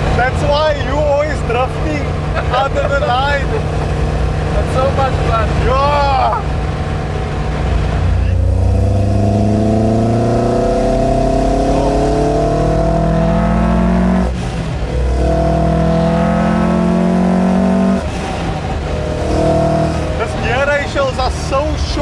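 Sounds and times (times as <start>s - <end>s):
engine revving under full throttle: 0.0s - 22.0s.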